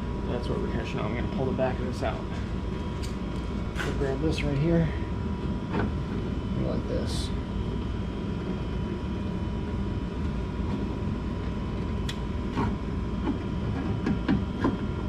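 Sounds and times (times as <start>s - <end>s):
faint steady hum: 0.0s - 15.0s
steady low rumble: 0.0s - 15.0s.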